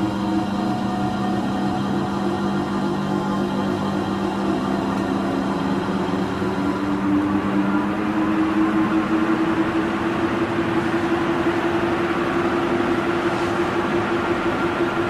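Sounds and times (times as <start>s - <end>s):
ceiling fan running: 0.0s - 15.0s.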